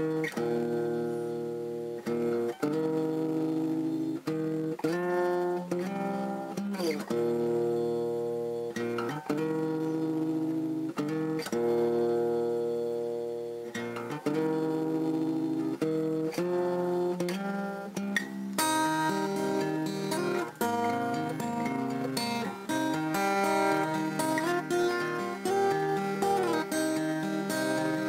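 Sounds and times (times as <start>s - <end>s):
acoustic guitar chords ringing: 0.0s - 28.0s.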